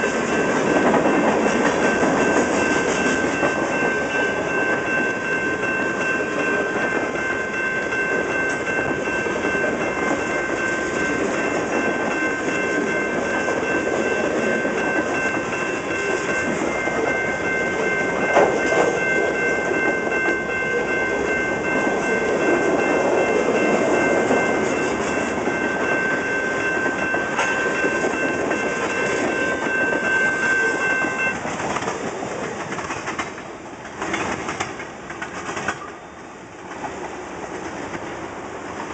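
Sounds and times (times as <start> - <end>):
high-pitched ringing tone: 0.0 - 31.4
train wheels clacking on rails: 0.0 - 38.9.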